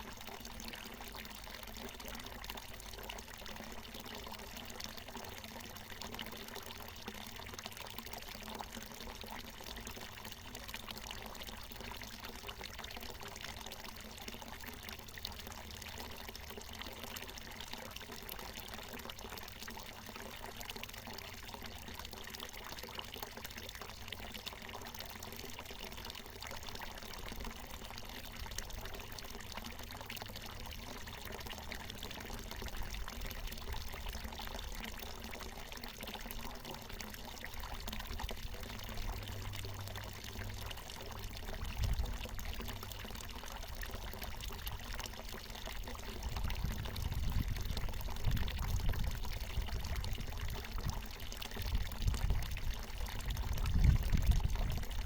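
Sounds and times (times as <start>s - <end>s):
spring water pouring: 0.0s - 55.0s.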